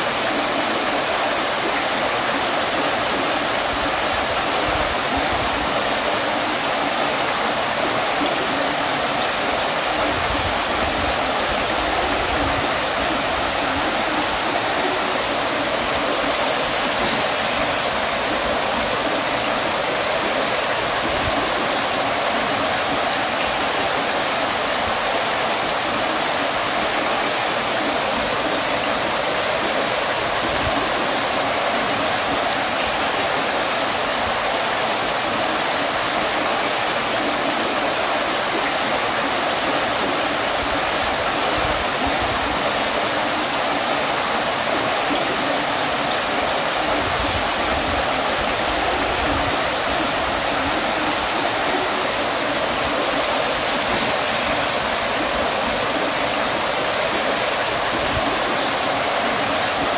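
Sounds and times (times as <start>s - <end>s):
water fountain splashing: 0.0s - 59.9s.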